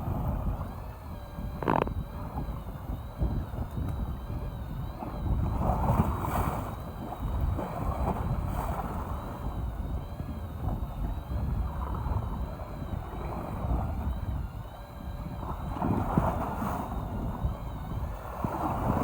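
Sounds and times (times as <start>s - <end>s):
sea water washing around boat: 0.0s - 19.0s
wind buffeting microphone: 0.0s - 19.0s.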